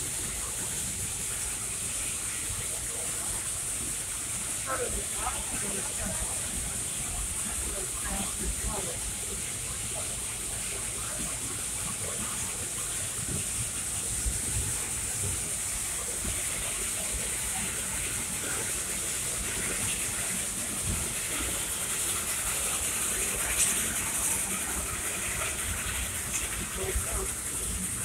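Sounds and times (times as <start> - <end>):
steam locomotive hissing: 0.0 - 28.0.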